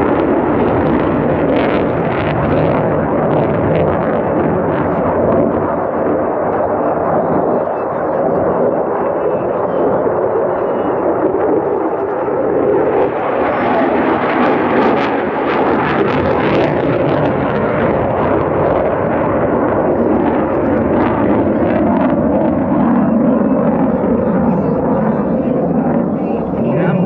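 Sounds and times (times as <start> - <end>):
jet flyby: 0.0 - 27.0.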